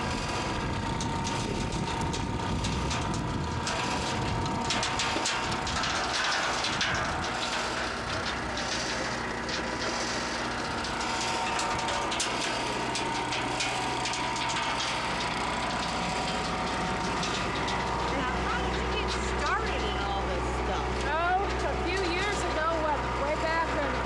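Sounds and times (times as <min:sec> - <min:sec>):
wash plant machine drone: 0:00.0 - 0:24.0.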